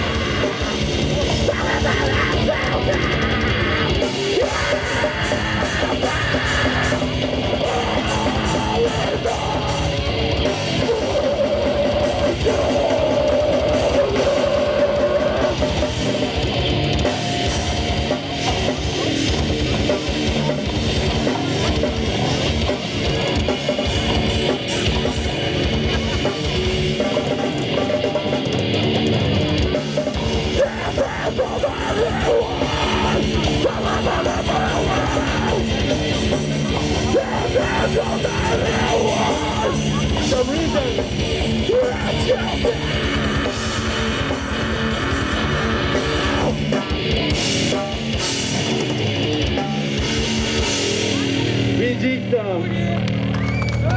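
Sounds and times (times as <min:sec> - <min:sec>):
rapid drumming on drum kit: 0:00.0 - 0:51.3
electric guitars: 0:00.0 - 0:53.9.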